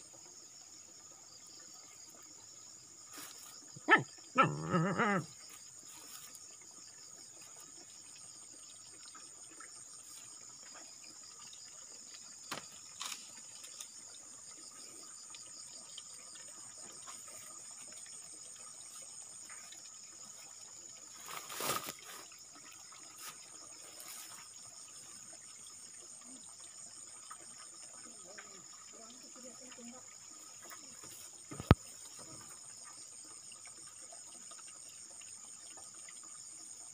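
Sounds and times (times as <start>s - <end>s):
insects trilling: 0.0s - 36.9s.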